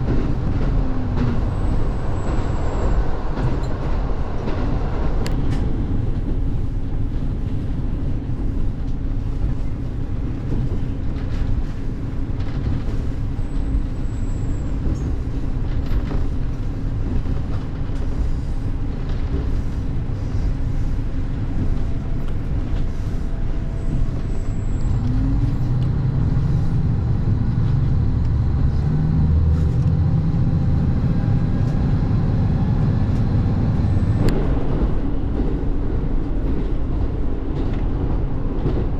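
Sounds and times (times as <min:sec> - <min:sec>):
diesel train rumbling: 0:00.0 - 0:38.9.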